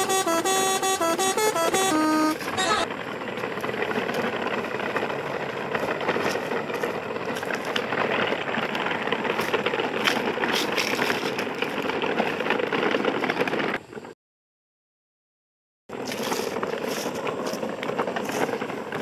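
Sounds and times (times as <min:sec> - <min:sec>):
toy trucks rattling over dirt: 0:00.0 - 0:14.1, 0:15.9 - 0:19.0.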